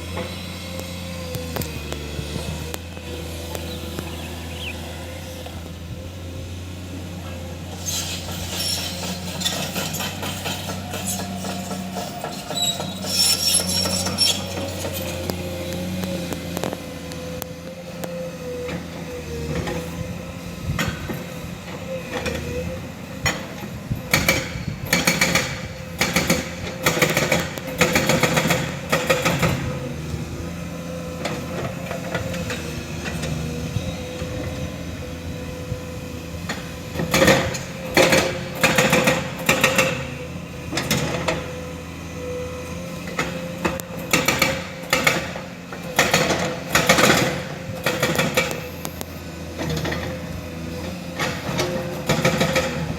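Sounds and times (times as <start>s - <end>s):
excavator engine running: 0.0s - 52.9s
hydraulic whine: 0.0s - 52.9s.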